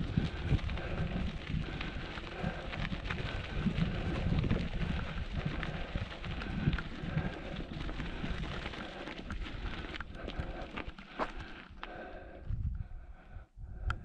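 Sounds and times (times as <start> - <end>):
bicycle tyres crunching gravel: 0.0 - 12.4
wind rumbling on microphone: 0.0 - 14.0.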